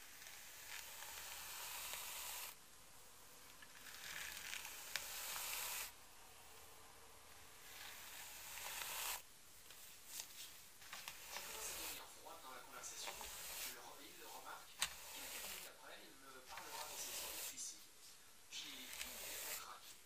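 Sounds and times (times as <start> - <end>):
hairbrush strokes through hair: 0.0 - 2.6, 3.9 - 6.0, 7.5 - 20.0.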